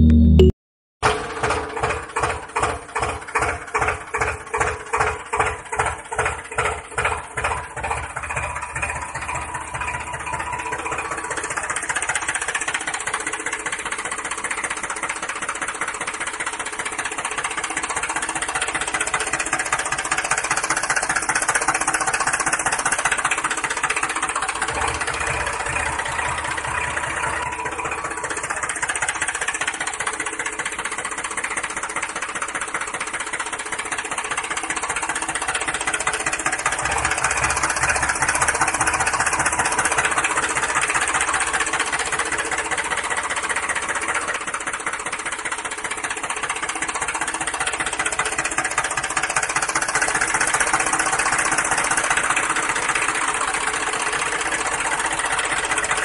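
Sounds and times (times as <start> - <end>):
diesel tractor engine knocking: 1.0 - 56.0.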